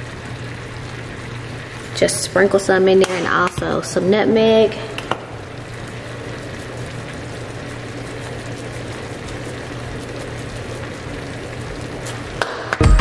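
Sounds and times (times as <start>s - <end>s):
faint fine crackles: 0.0s - 12.4s
food sizzling in frying pan: 0.0s - 12.5s.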